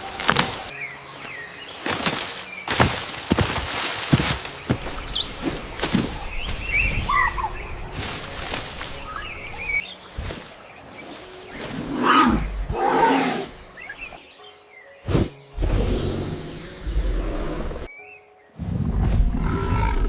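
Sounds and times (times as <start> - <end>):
birds chirping: 0.0 - 20.0
outdoor ambience: 0.0 - 20.0.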